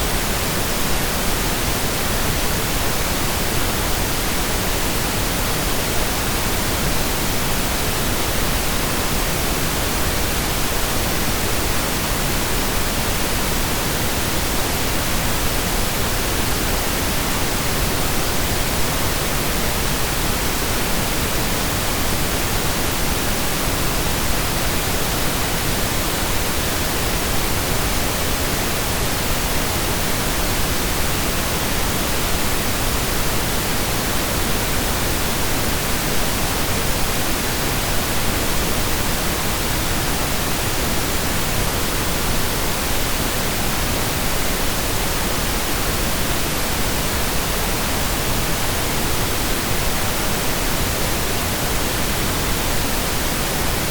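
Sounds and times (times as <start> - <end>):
pink noise hiss: 0.0 - 53.9.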